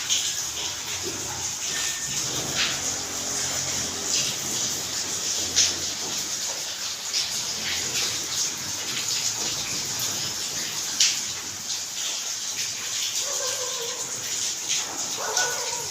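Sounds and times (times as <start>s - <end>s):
steady rain: 0.0s - 15.9s
water drips and splashes: 0.0s - 15.9s.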